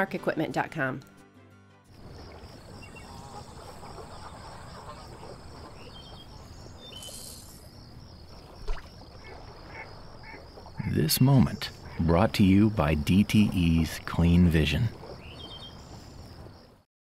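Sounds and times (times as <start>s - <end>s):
insects chirping: 1.9s - 16.8s.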